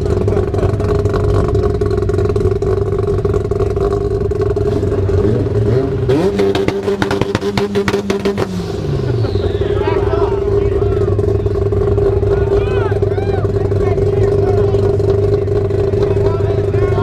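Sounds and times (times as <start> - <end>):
car engine idling and revving: 0.0 - 17.0
exhaust cracks: 0.0 - 17.0.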